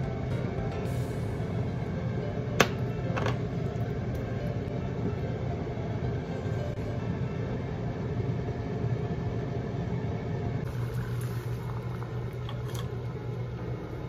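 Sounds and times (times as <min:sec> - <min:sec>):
low hum: 0:00.0 - 0:14.0
water at a rolling boil: 0:00.0 - 0:14.0.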